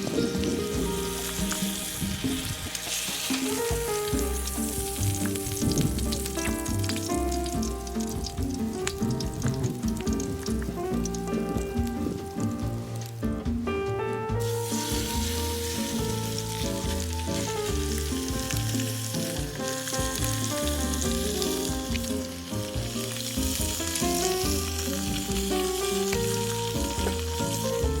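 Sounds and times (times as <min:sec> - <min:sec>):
food sizzling and crackling: 0:00.0 - 0:13.5, 0:14.4 - 0:28.0
background music: 0:00.0 - 0:28.0.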